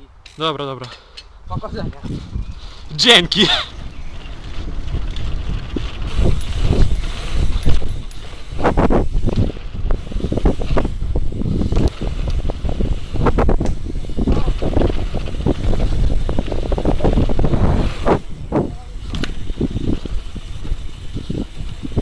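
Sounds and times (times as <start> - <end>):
wind buffeting microphone: 1.4 - 22.0
tyres rumbling on dirt: 2.0 - 22.0
bike knocks and rattles: 3.5 - 22.0.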